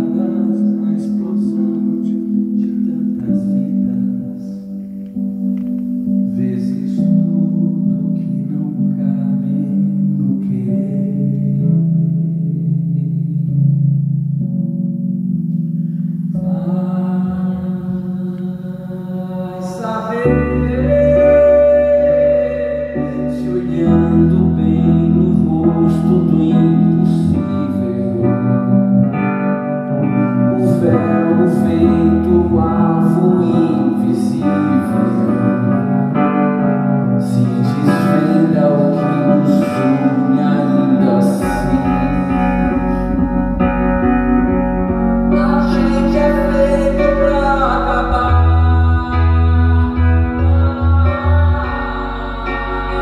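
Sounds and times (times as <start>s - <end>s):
person singing: 0.0s - 5.3s, 6.1s - 13.6s, 15.8s - 53.0s
sustained chords: 0.0s - 53.0s
bass line: 5.0s - 53.0s.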